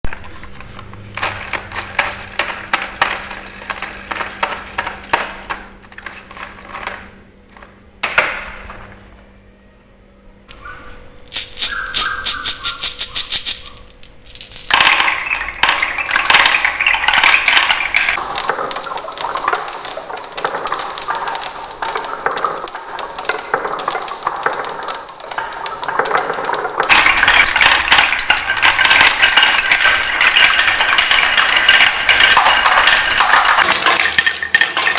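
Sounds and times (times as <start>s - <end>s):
marbles clattering on wooden track: 0.0s - 8.9s, 11.3s - 34.9s.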